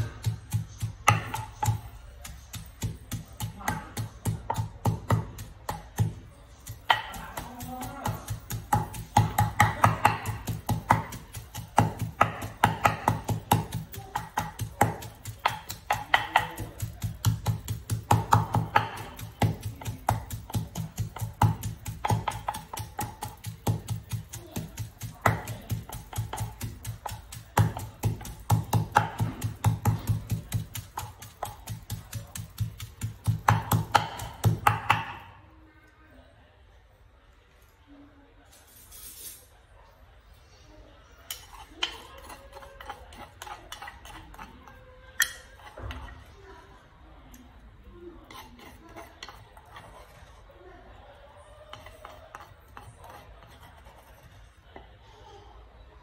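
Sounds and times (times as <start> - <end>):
pestle pounding in wooden mortar: 0.0 - 35.3, 41.3 - 46.3, 48.2 - 50.3, 51.7 - 54.3.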